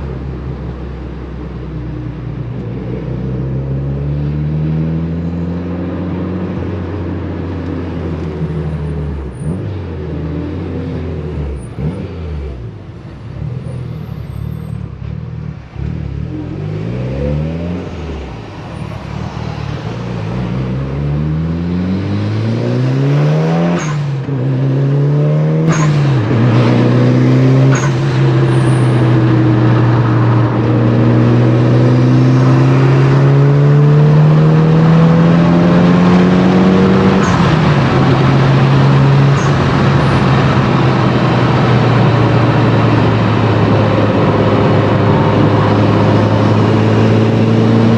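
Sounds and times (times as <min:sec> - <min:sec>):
car engine accelerating: 0:01.5 - 0:47.9.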